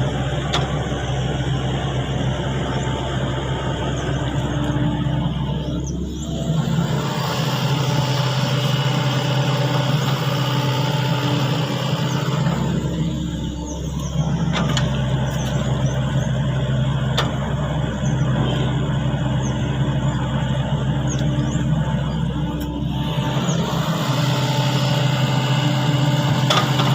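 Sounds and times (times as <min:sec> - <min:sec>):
excavator engine humming: 0:00.0 - 0:26.9.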